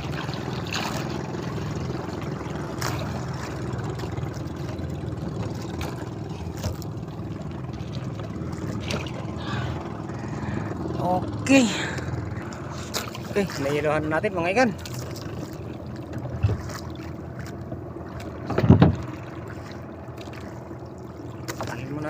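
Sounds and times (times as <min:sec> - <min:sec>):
boat diesel engine running: 0:00.0 - 0:22.0.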